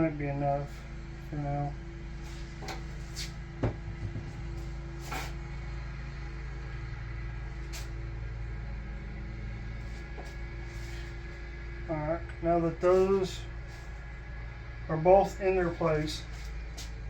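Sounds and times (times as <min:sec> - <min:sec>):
workshop background hum: 0:00.0 - 0:17.0.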